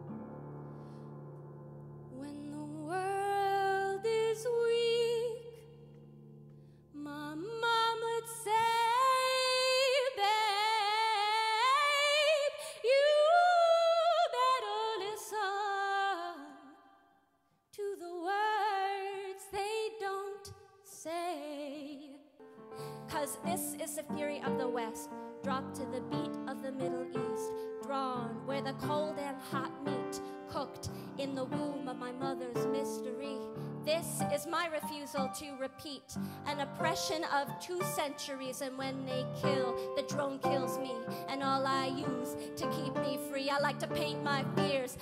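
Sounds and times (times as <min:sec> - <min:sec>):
woman singing unaccompanied: 0:02.2 - 0:05.6, 0:07.0 - 0:16.8, 0:17.8 - 0:22.2, 0:23.1 - 0:45.0.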